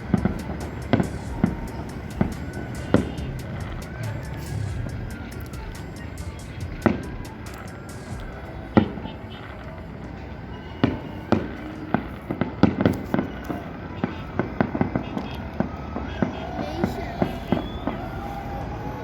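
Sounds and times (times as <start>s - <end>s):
fireworks bangs and cracks: 0.0s - 10.2s, 10.8s - 18.0s.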